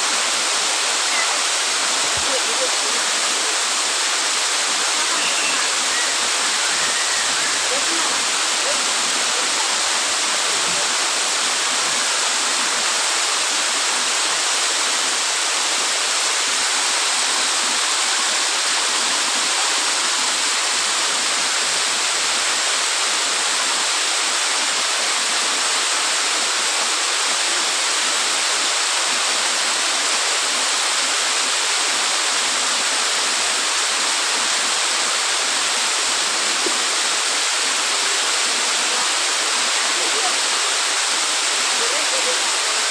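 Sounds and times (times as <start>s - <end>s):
waterfall crashing: 0.0s - 42.9s.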